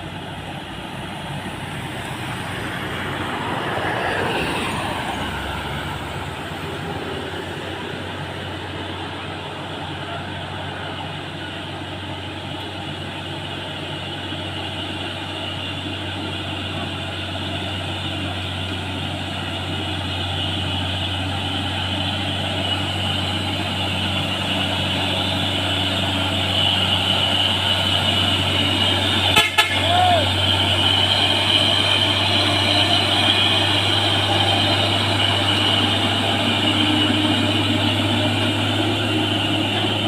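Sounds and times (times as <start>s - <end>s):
diesel truck engine drone: 0.0s - 40.0s.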